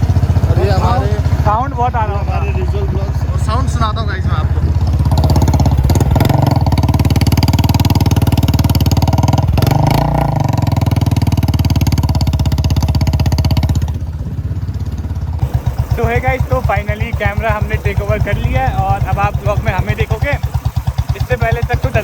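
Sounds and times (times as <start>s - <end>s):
single-cylinder motorcycle engine: 0.0s - 22.0s.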